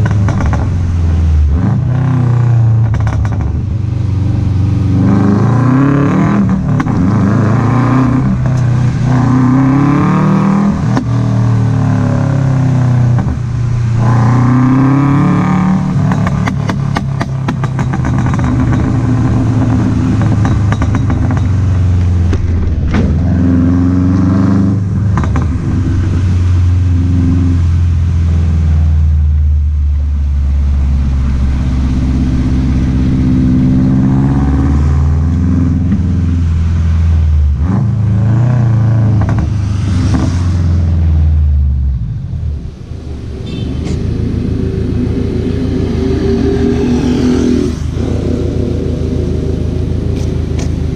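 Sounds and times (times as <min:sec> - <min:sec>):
car exhaust rumble accelerating: 0:00.0 - 0:50.9.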